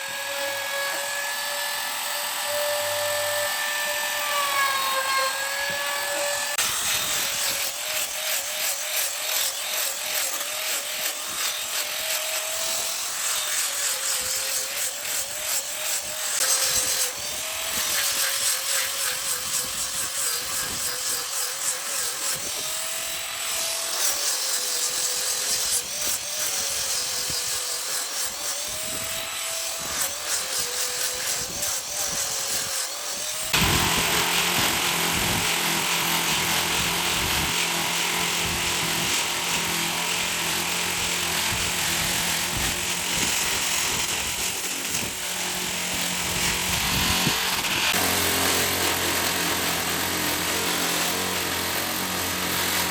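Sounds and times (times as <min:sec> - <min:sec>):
power tool cutting wood: 0:00.0 - 0:52.9.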